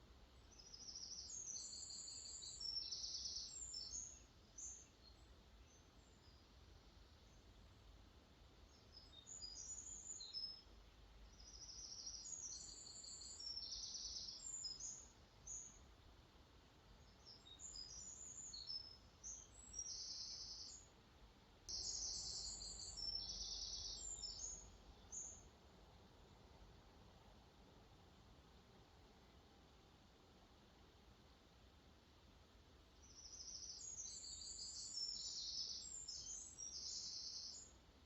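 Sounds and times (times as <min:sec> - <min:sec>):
faint background hiss: 0:00.0 - 0:38.0
songbirds singing: 0:00.3 - 0:16.1, 0:16.9 - 0:21.0, 0:21.6 - 0:27.1, 0:32.8 - 0:38.0.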